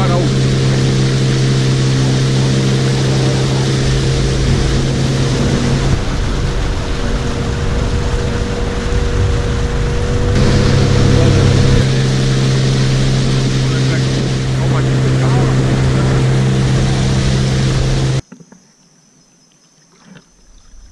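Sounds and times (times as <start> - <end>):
outboard motor droning: 0.0 - 18.2
water rushing along hull: 0.0 - 18.2.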